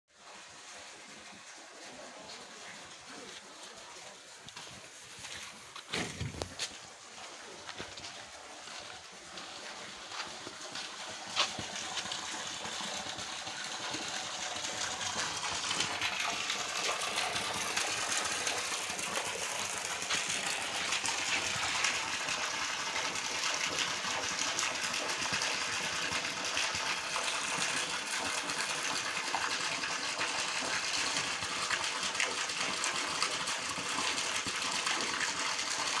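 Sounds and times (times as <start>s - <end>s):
water pouring and splashing: 0.2s - 36.0s.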